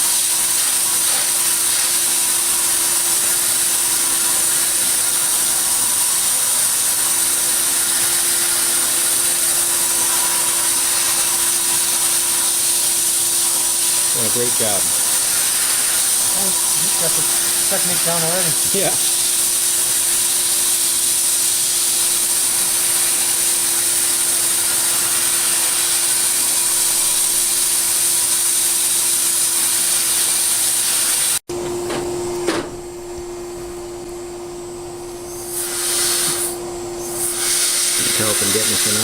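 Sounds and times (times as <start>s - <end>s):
blast nozzle hissing: 0.0s - 31.4s, 35.2s - 39.0s.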